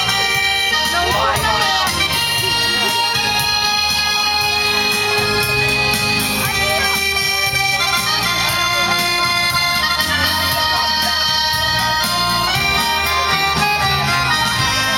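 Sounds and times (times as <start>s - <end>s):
accordion ballroom dance music: 0.0s - 14.9s.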